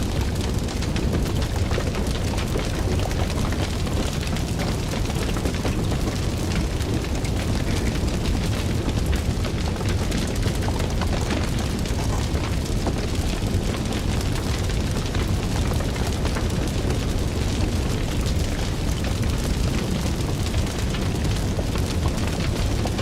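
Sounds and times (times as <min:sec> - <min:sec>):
fire roaring and crackling: 0:00.0 - 0:23.0.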